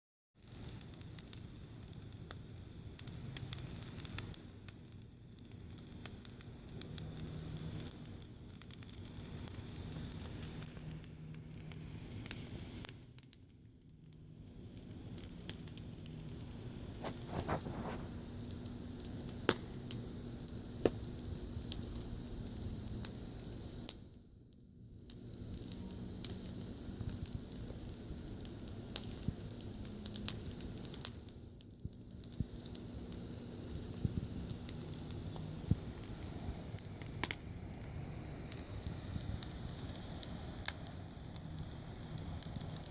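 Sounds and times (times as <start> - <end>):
fire crackling in a stove: 0.4 - 42.9.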